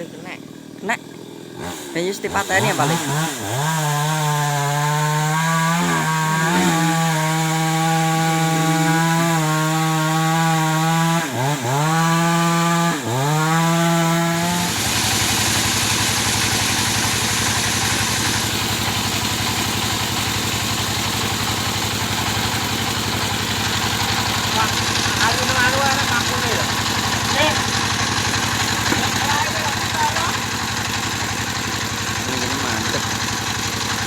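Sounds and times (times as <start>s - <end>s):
chainsaw engine running: 0.0s - 34.0s.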